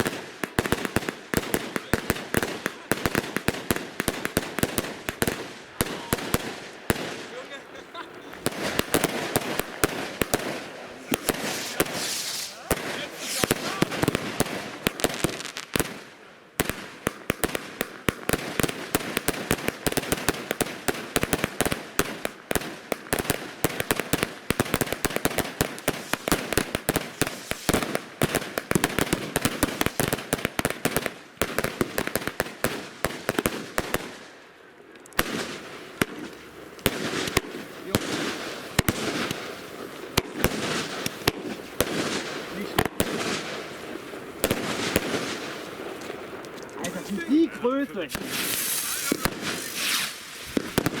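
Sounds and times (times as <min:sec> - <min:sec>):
firework barrage with crackling: 0:00.0 - 0:51.0.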